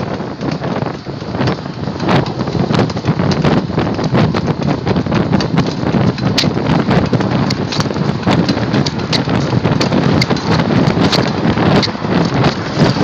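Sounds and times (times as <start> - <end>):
bicycle clicking and ticking: 0.0 - 13.0
wind and road rush: 0.0 - 13.0.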